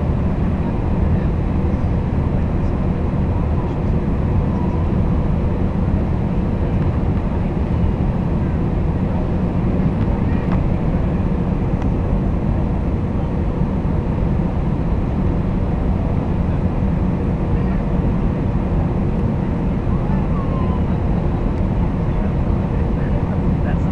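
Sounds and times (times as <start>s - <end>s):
jet engines rumbling in cabin: 0.0s - 23.9s.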